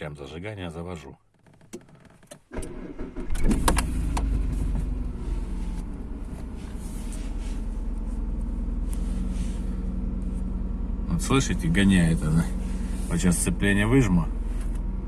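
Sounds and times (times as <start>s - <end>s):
car engine starting and idling: 2.4s - 15.0s.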